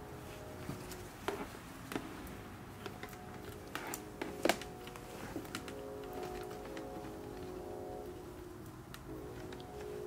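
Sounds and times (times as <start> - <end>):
faint steady tone: 0.0 - 10.0.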